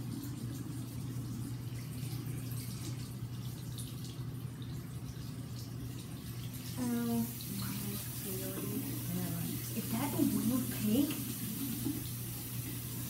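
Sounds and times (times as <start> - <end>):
tap water splashing: 0.0 - 13.0.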